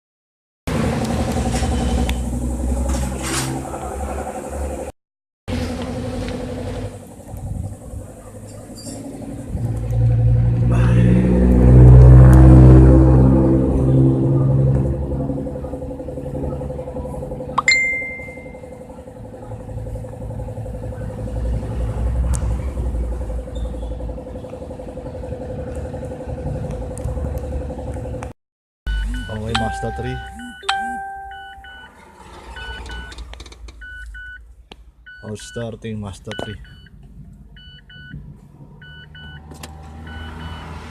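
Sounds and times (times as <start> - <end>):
car engine starting and idling: 0.7 - 4.9, 5.5 - 28.3, 28.9 - 40.9.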